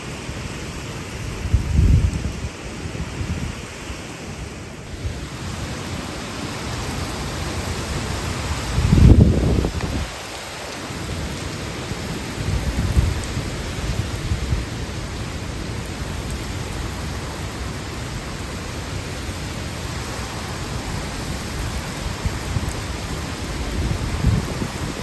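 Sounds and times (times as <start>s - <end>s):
heavy rain and wind: 0.0s - 25.0s.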